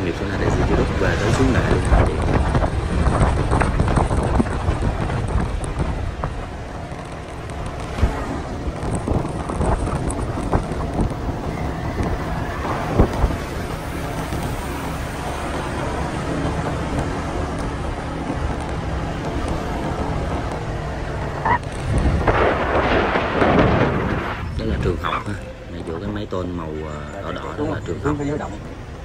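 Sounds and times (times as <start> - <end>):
vehicle bumps: 0.0 - 25.0
vehicle engine and tyre hum: 0.0 - 29.0
wind buffeting microphone: 0.0 - 29.0.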